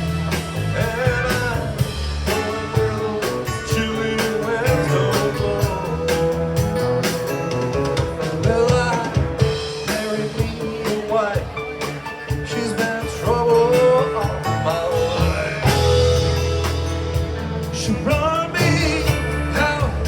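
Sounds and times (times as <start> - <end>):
drum kit beat: 0.0 - 20.0
electric guitar: 0.0 - 20.0.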